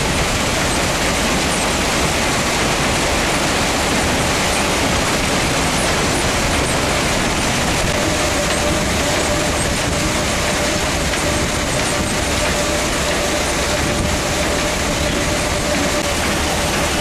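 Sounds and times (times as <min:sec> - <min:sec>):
machinery rattle and rumble: 0:00.0 - 0:17.0
thin steady whine: 0:00.0 - 0:17.0.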